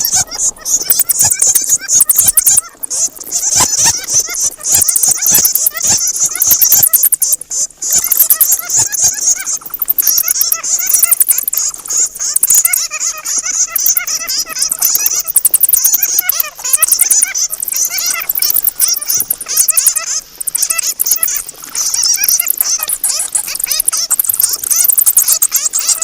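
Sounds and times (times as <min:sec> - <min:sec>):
bats squeaking and chattering: 0:00.0 - 0:26.0.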